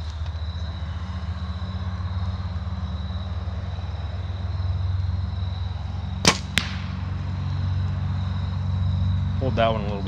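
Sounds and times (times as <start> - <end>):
faint high steady whine: 0.0 - 10.0
low fluttering motor hum: 0.4 - 10.0.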